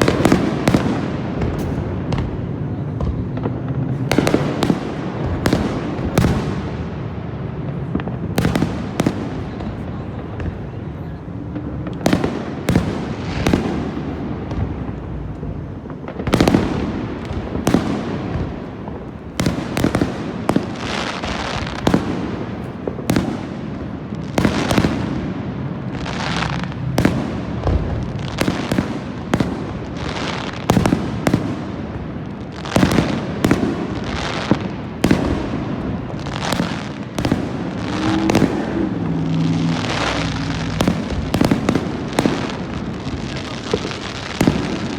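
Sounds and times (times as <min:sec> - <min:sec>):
fireworks bursts and bangs: 0:00.0 - 0:44.9.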